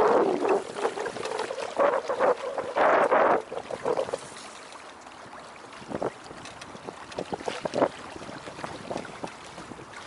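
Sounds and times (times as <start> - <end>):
water splashing against boat hull: 0.0 - 10.0.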